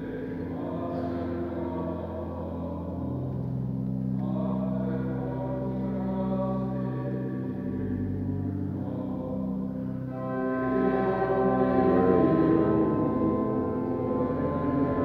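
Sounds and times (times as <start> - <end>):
pipe organ chords: 0.0 - 15.0.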